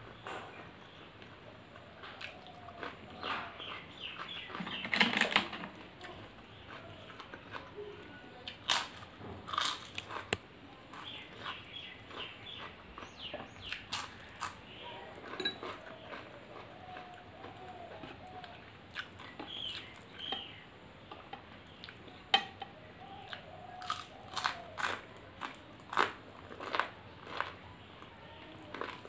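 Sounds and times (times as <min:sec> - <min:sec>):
chewing and wet mouth sounds: 0:01.7 - 0:04.8, 0:05.9 - 0:22.2, 0:23.2 - 0:29.0.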